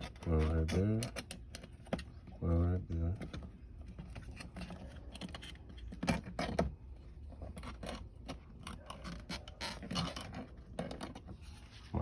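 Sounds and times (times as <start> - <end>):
clicks and rattles of handling wires: 0.0 - 11.5.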